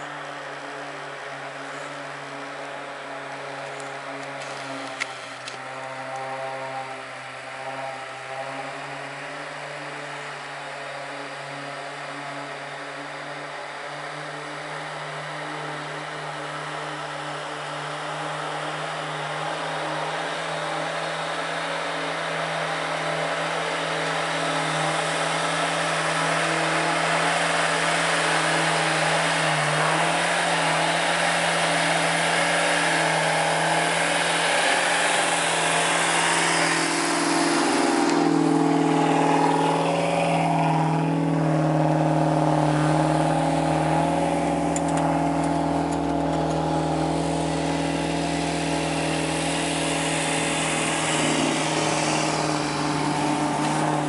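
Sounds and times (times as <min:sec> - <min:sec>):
tyres churning snow: 0:00.0 - 0:54.0
truck engine running: 0:09.1 - 0:54.0.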